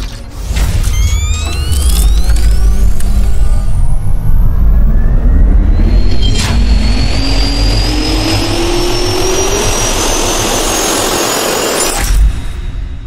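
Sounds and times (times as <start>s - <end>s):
sharp hit: 0.0s - 4.8s, 5.4s - 13.0s
deep rumble: 0.3s - 13.0s
rushing noise: 0.3s - 13.0s
jet turbine whine rising: 0.4s - 13.0s.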